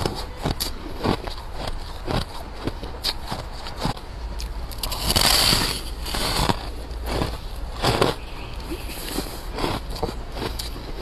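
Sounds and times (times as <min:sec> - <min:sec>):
frost crunching as chewed: 0:00.0 - 0:11.0.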